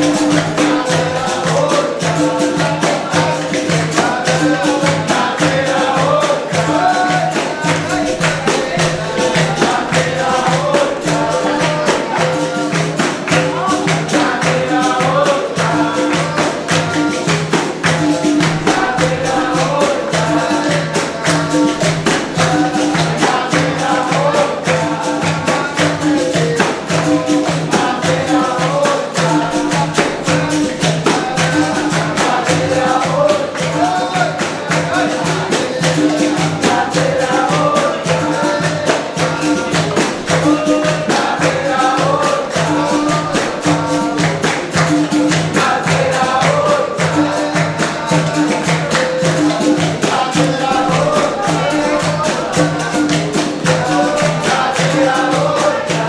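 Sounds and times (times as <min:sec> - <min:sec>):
group singing: 0:00.0 - 0:56.0
pandeiro: 0:00.0 - 0:56.0.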